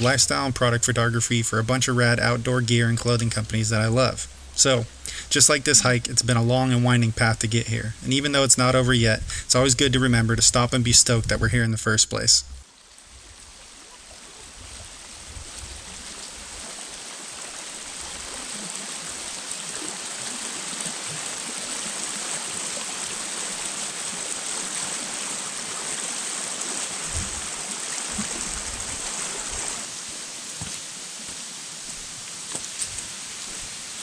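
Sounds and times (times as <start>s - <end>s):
stream flowing over stones: 0.0s - 12.0s, 12.6s - 34.0s.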